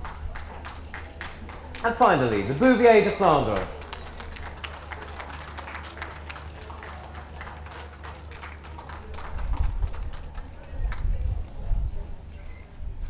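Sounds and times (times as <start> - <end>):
scattered applause: 0.0 - 11.8.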